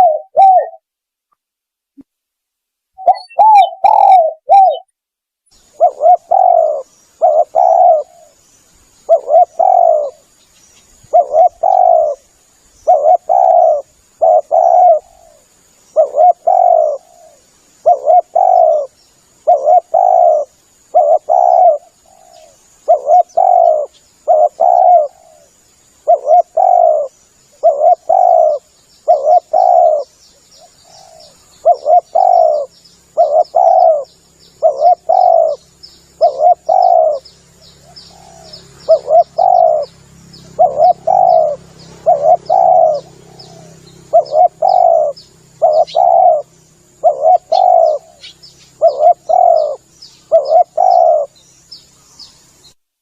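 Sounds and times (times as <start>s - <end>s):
dove cooing: 0.0s - 0.8s, 3.0s - 4.9s, 5.6s - 8.4s, 9.0s - 10.3s, 11.0s - 51.4s.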